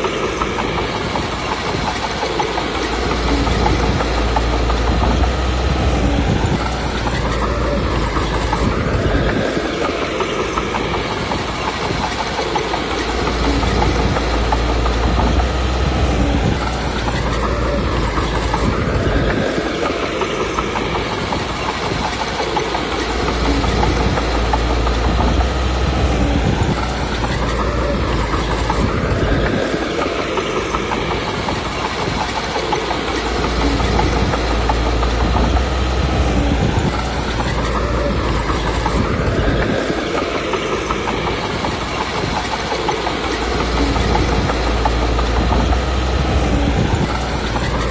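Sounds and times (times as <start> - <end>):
bulldozer diesel engine under load: 0.0 - 47.9
steel tracks clattering: 0.0 - 47.9.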